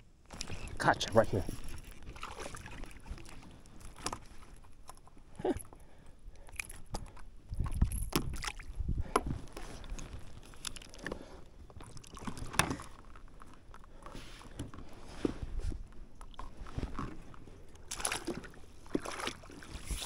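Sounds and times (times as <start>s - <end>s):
water lapping around kayak: 0.1s - 20.0s.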